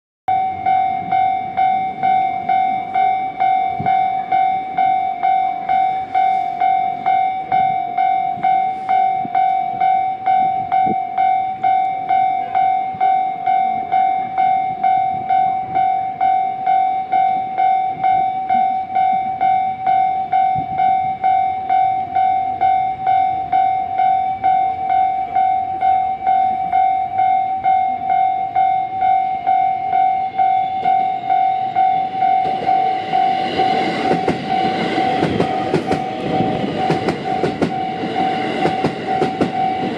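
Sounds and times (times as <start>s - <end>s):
faint train running noise: 0.3s - 39.9s
level crossing bell dinging: 0.3s - 39.9s.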